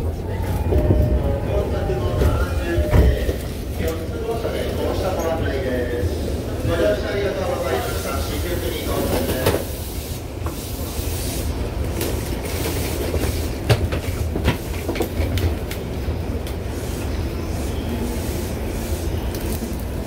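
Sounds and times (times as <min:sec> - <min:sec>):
train running rumble: 0:00.0 - 0:20.0.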